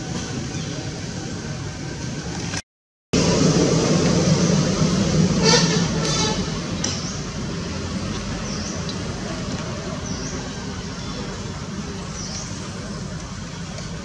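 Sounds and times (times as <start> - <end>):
outdoor background rumble: 0.0 - 2.6, 3.2 - 14.0.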